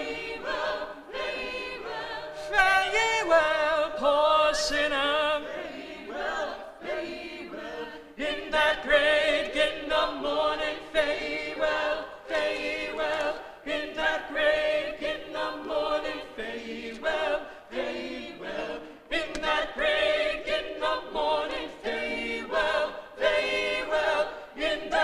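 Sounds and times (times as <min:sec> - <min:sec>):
choir singing unaccompanied: 0:00.0 - 0:25.0.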